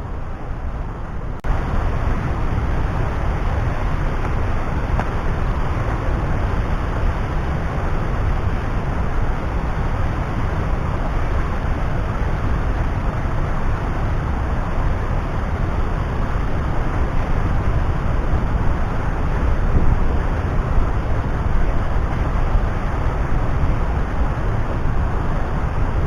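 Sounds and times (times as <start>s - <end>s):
waterfall rushing over rocks: 1.5s - 26.0s.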